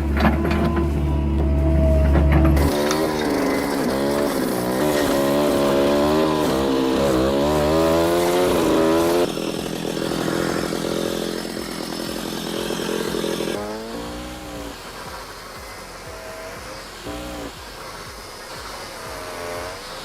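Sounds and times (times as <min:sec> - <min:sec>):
engine-driven machinery running: 0:00.0 - 0:20.0.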